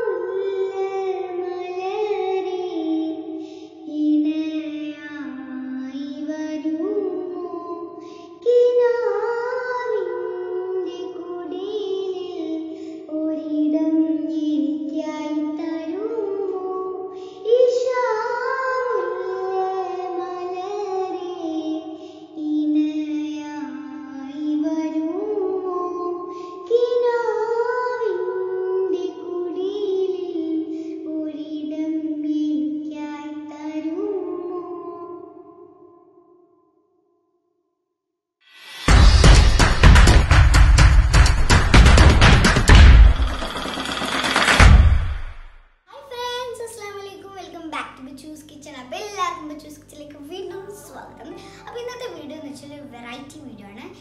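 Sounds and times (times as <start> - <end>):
girl singing unaccompanied: 0.0 - 35.5, 45.9 - 54.0.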